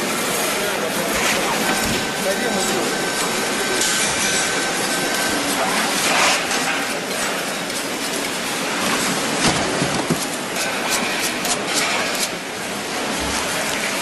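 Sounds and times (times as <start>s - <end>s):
noisy din of processing hall: 0.0s - 14.0s.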